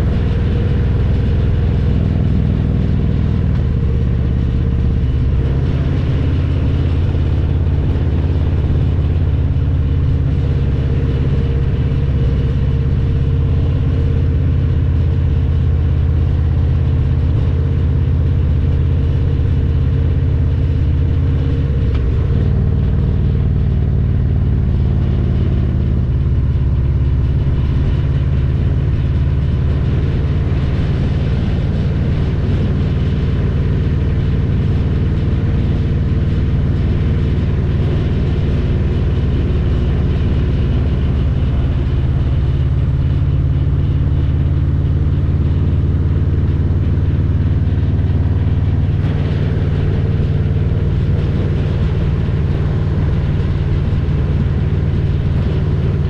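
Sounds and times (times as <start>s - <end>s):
motorcycle exhaust note: 0.0s - 56.0s.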